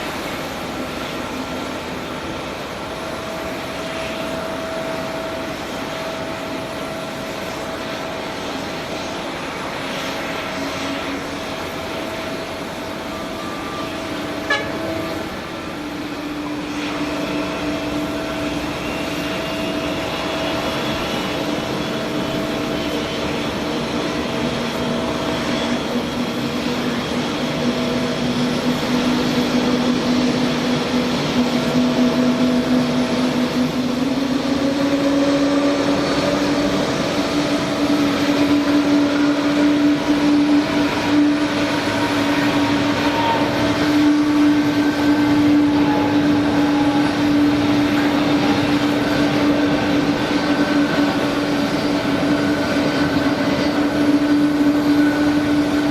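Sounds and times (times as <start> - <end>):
machinery noise: 0.0 - 55.9
tow tractor whine: 0.0 - 55.9.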